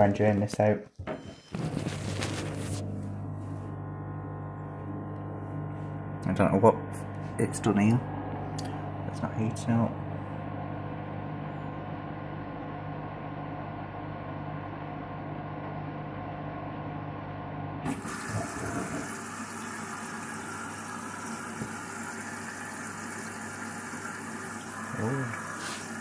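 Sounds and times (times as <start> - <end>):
washing machine hum: 0.0 - 26.0.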